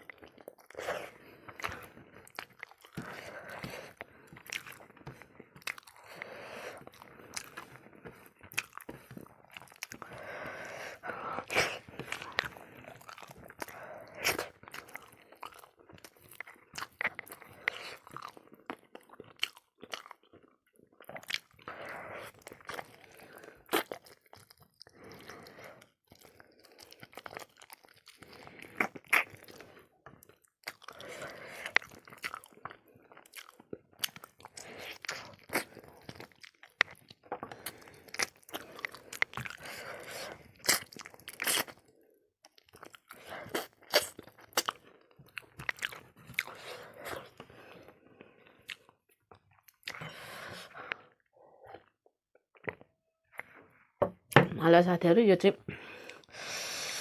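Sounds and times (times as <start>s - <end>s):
person chewing and crunching: 0.0s - 54.4s.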